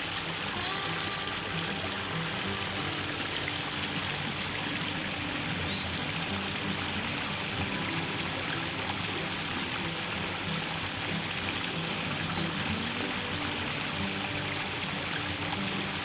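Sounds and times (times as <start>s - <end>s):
soft background music: 0.0s - 16.0s
water splashing over rocks: 0.0s - 16.0s.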